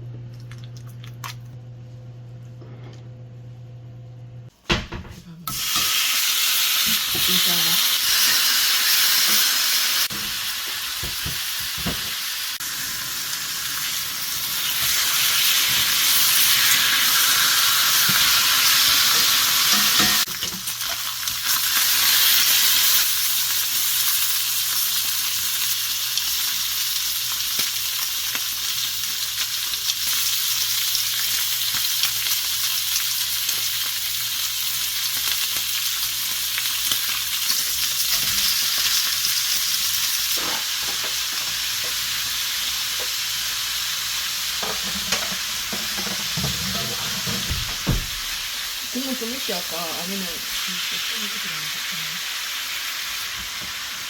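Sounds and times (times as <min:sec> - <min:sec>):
food sizzling in a pan: 0:05.5 - 0:54.0.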